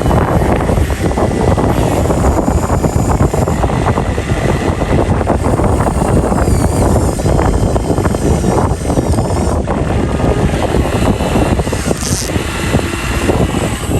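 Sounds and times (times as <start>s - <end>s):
excavator engine rumbling: 0.0s - 13.9s.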